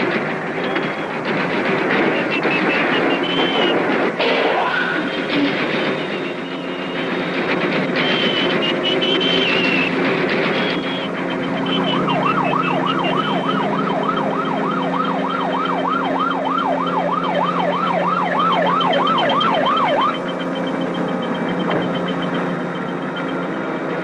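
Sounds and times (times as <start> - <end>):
police siren yelping: 0.5 - 7.2, 7.9 - 23.9.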